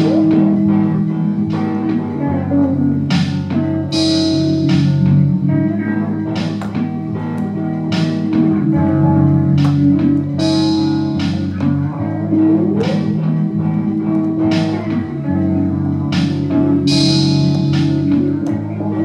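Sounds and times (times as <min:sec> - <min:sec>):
guitar-led music with bass: 0:00.0 - 0:19.0.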